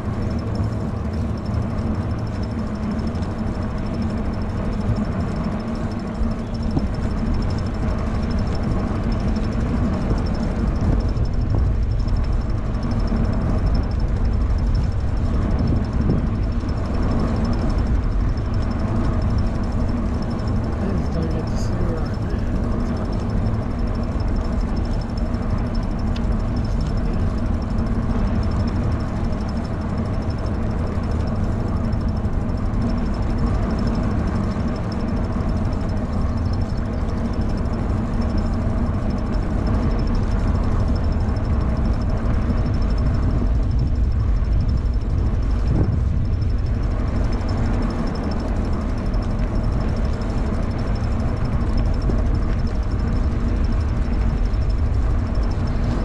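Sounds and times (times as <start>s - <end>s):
bicycle road noise: 0.0s - 56.0s
wind rushing on microphone: 0.0s - 56.0s.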